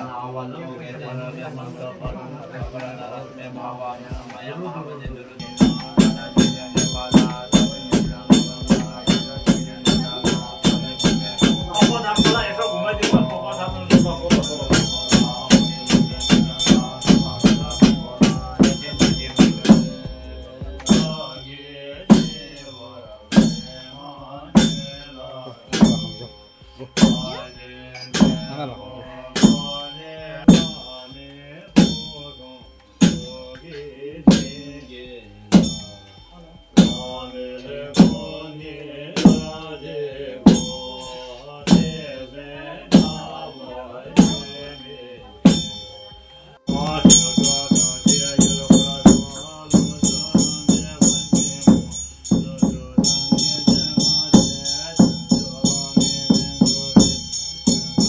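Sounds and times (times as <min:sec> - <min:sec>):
large frame drum beaten: 0:05.4 - 0:31.2, 0:31.8 - 0:32.4, 0:33.0 - 0:34.8, 0:35.5 - 0:38.5, 0:39.2 - 0:42.2, 0:42.8 - 0:46.1, 0:46.7 - 0:58.0.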